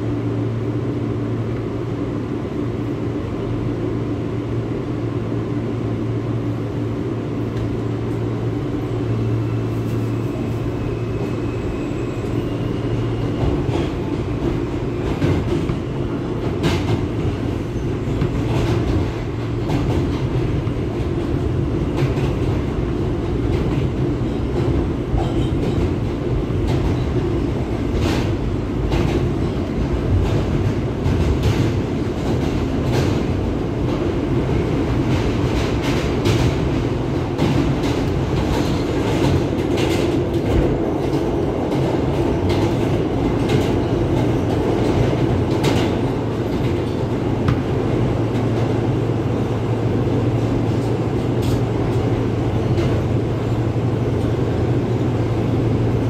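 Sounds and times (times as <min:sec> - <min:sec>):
subway train rumble: 0:00.0 - 0:56.0.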